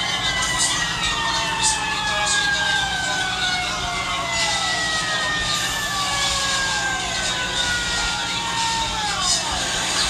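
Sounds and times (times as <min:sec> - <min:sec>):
fire engine sirens: 0:00.0 - 0:10.0.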